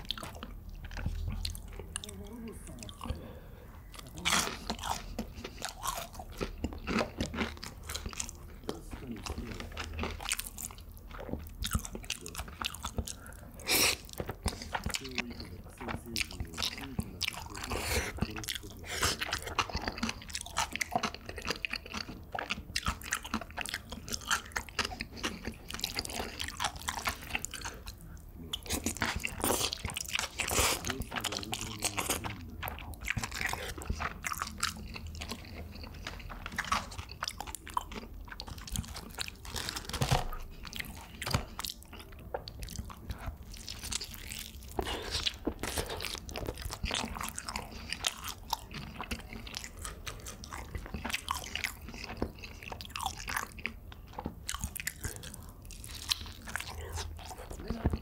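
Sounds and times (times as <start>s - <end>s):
crunchy chewing: 0.0s - 3.2s, 3.9s - 58.0s.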